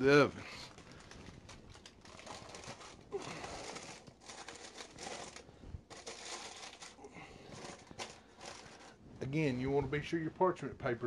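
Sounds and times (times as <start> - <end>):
paper crinkling and rustling: 0.1 - 9.6.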